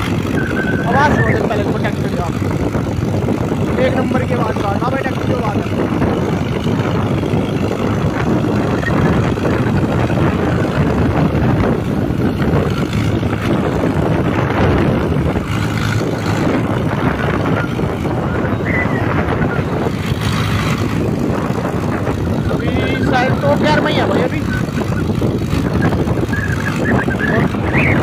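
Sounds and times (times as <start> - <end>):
road and wind noise: 0.0 - 28.0
tractor diesel engine under load: 0.0 - 28.0.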